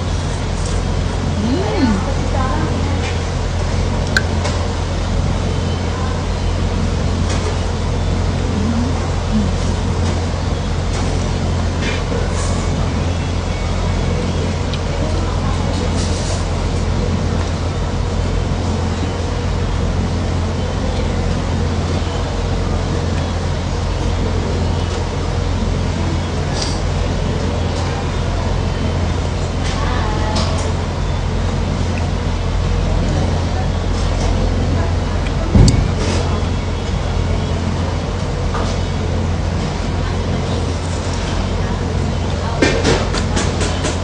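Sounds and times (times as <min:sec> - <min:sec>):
steady low rumbling: 0:00.0 - 0:44.0.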